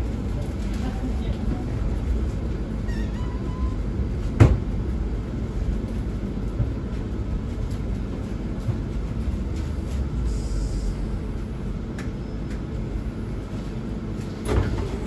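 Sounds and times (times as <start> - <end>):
train running low rumble: 0.0 - 15.0.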